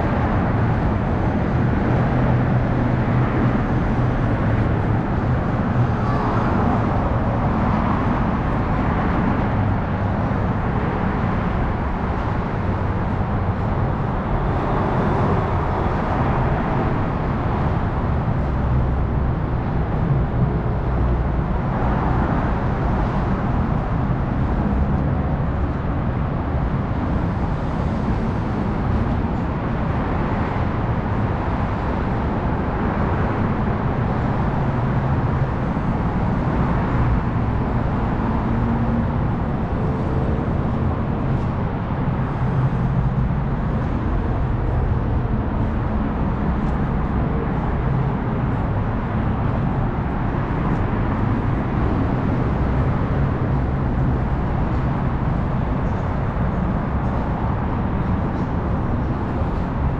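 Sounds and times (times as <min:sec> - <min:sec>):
steady road traffic: 0:00.0 - 0:59.9.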